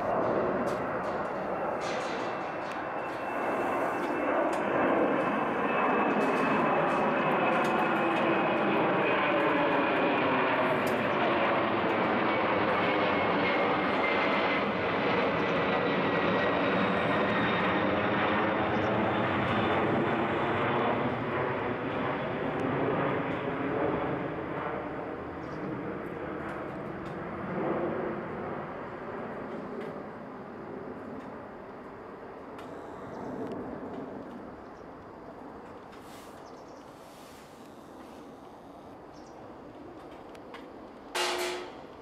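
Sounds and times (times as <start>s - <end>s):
jet airliner passing overhead: 0.0s - 42.0s.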